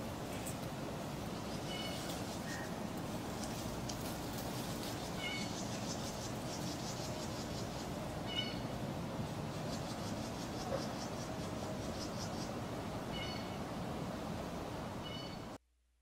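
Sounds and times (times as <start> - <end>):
steady low hiss: 0.0 - 15.6.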